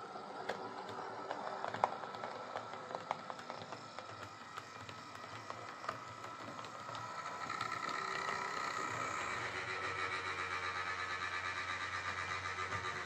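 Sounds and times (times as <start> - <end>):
model locomotive motor whine: 0.0 - 13.0
wheels clicking on rails: 0.0 - 13.0.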